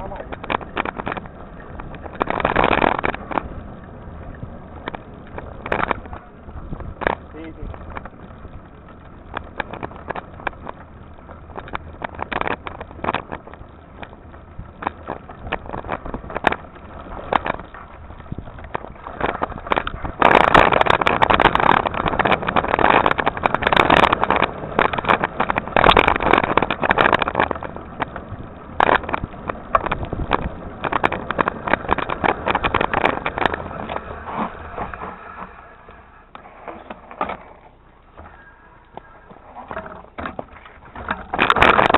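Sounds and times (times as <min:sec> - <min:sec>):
bike rattling over bumps: 0:00.0 - 0:41.9
bike tyres on dirt trail: 0:00.0 - 0:41.9.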